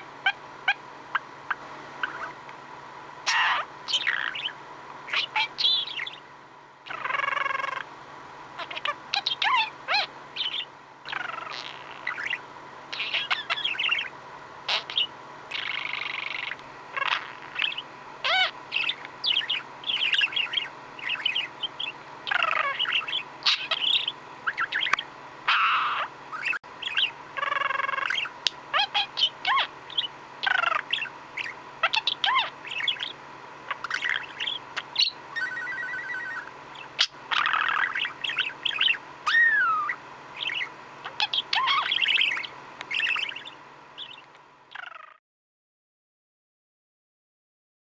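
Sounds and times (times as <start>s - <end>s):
budgerigar chattering and warbling: 0.0s - 2.4s, 3.2s - 6.2s, 6.9s - 7.9s, 8.6s - 45.2s.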